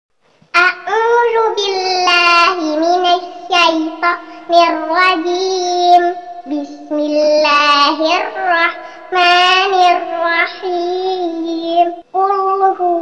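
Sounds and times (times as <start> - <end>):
girl chanting melodically: 0.5 - 13.0.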